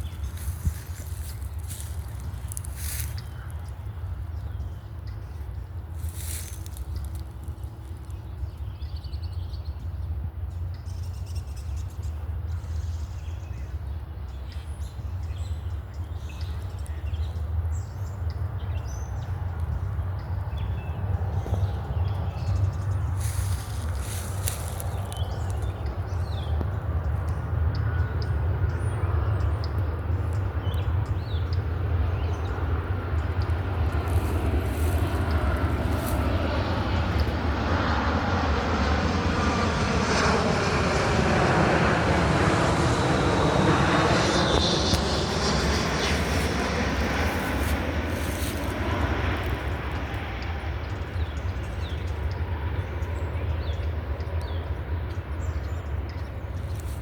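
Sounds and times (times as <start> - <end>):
aircraft engine drone overhead: 0.0 - 57.0.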